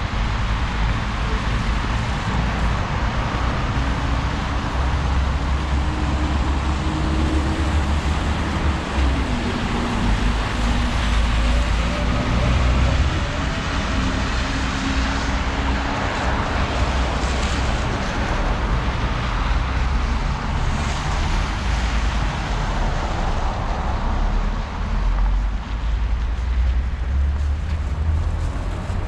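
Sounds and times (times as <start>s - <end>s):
traffic rumble: 0.0s - 29.0s
tyres hissing on wet road: 0.1s - 29.0s.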